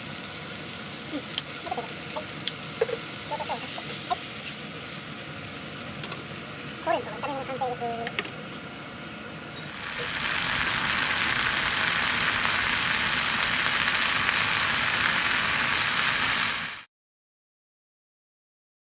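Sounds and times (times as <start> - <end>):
vegetables sizzling in oil: 0.0 - 16.9.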